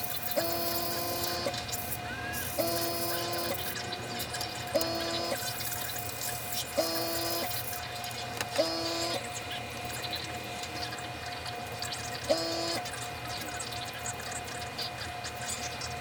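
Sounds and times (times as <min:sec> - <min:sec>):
compressor hum and hiss: 0:00.0 - 0:16.0.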